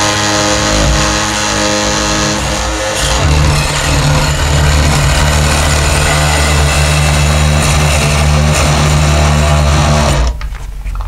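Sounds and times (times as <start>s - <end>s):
oscillating multi-tool grinding grout: 0.0s - 10.2s.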